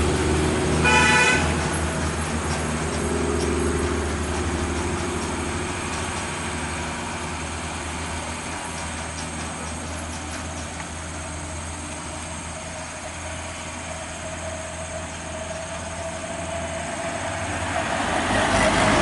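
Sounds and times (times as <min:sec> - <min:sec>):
heavy vehicle engine droning: 0:00.0 - 0:19.0.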